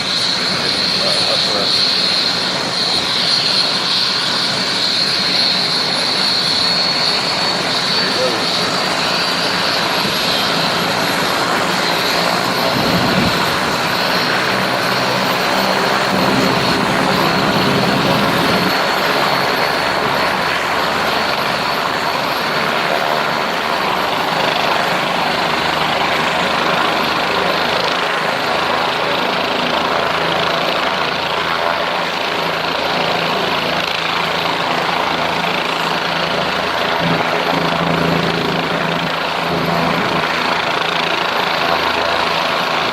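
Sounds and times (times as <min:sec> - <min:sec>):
helicopter turbine and rotor: 0:00.0 - 0:42.9.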